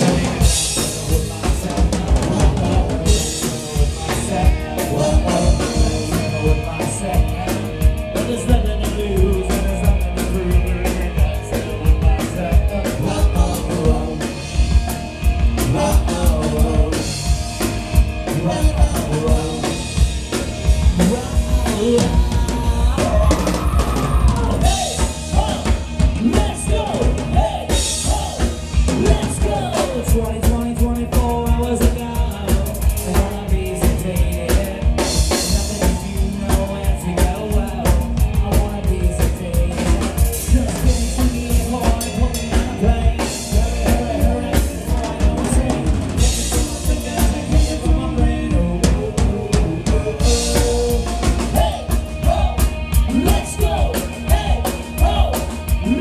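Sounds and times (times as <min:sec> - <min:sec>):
drum kit beat: 0:00.0 - 0:56.0
electric guitar and bass: 0:00.0 - 0:56.0.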